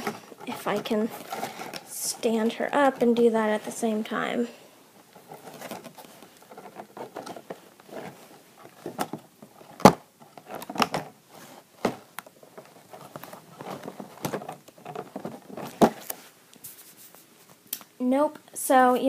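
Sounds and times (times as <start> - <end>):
plastic and cardboard crinkling: 0.0 - 4.2, 5.0 - 17.9.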